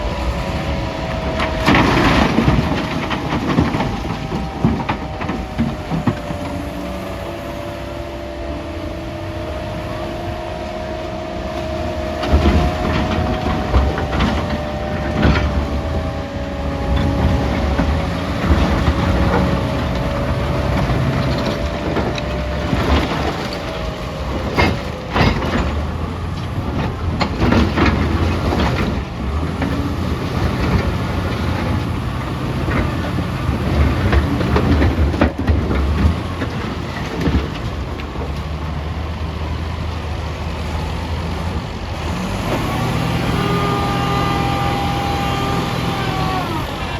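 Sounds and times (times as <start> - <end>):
wheel loader diesel engine whining: 0.0 - 46.9.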